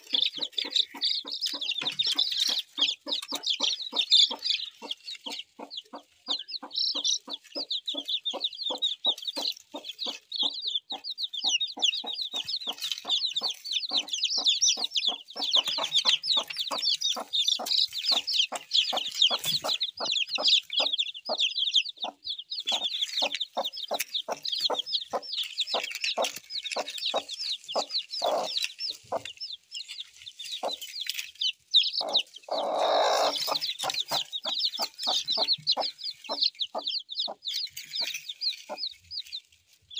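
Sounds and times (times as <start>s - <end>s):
chickens clucking: 0.0s - 39.9s
high-pitched chirping: 0.0s - 39.9s.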